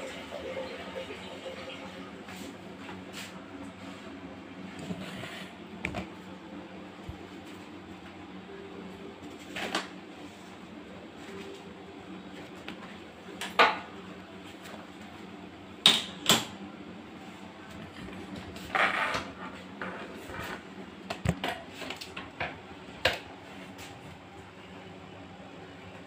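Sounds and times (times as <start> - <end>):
steady low hum: 1.8 - 26.0.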